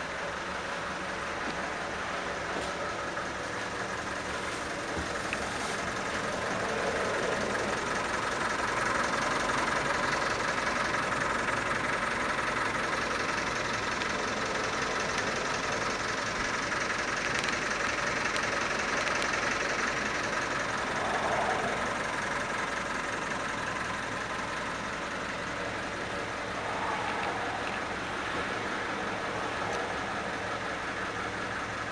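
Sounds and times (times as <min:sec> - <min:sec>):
truck engine idling: 0:00.0 - 0:31.9.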